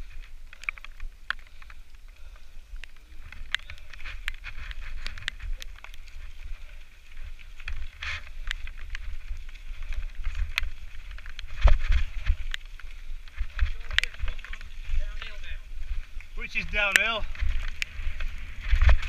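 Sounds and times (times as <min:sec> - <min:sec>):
bike rattles and clicks: 0:00.0 - 0:19.0
bike tyres rumbling over stones: 0:00.0 - 0:19.0.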